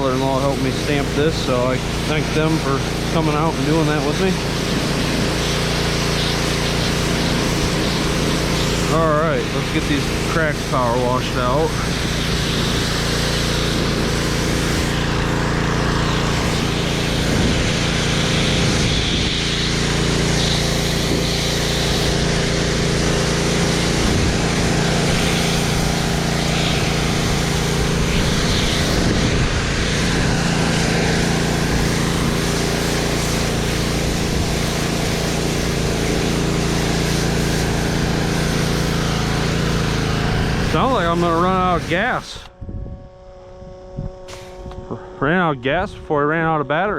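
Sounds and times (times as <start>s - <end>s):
water jet spraying on concrete: 0.0s - 42.5s
pressure washer engine running: 0.0s - 46.9s.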